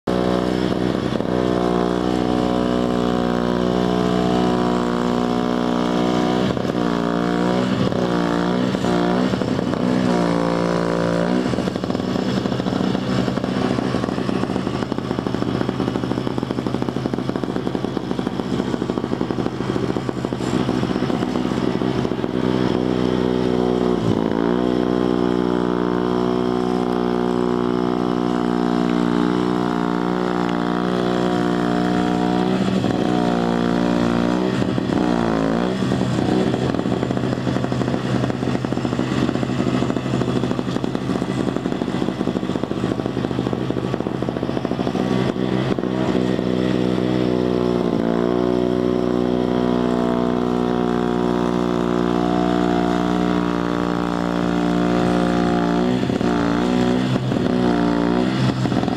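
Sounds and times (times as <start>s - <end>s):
snow blower engine running: 0.0s - 58.9s.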